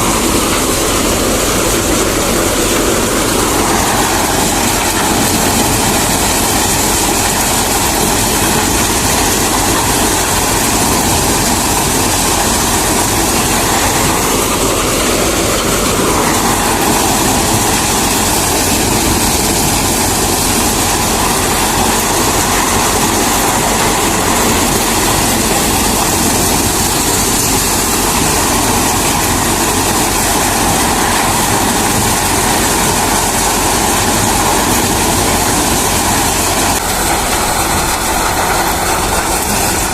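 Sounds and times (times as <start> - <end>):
maize thresher running: 0.0 - 39.9.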